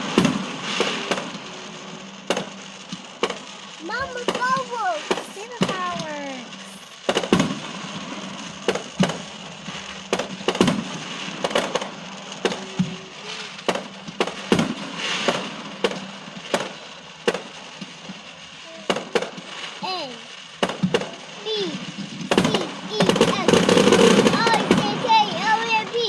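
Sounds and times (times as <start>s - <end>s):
fireworks banging: 0.0s - 26.0s
fireworks crackling: 0.0s - 26.0s.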